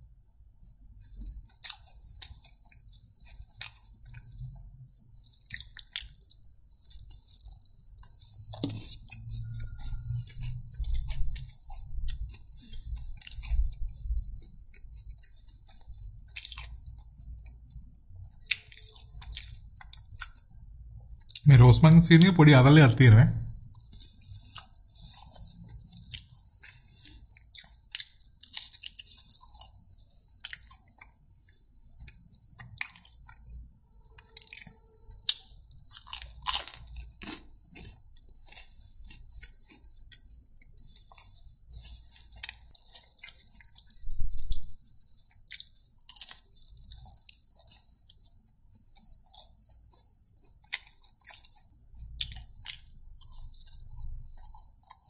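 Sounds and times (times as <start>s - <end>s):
person chewing and biting food: 0.4s - 21.5s, 23.4s - 55.0s.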